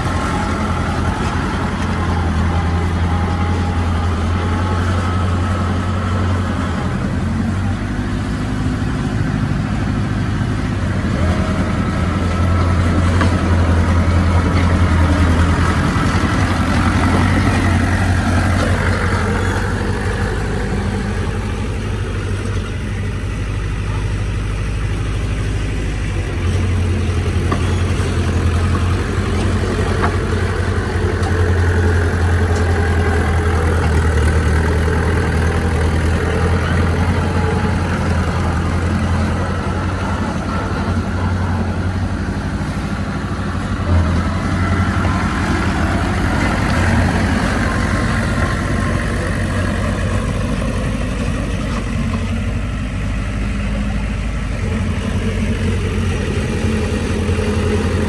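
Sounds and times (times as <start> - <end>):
heavy diesel engine humming: 0.0 - 58.0.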